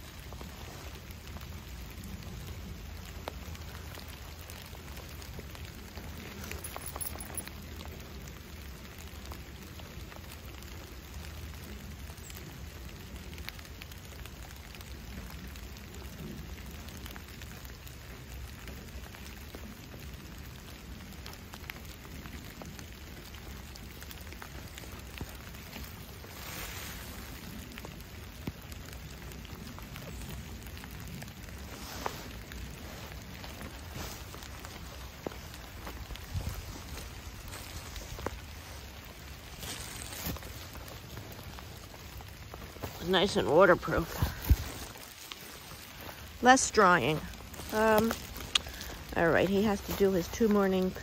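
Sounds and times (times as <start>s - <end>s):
rain falling on leaves: 0.0s - 51.0s.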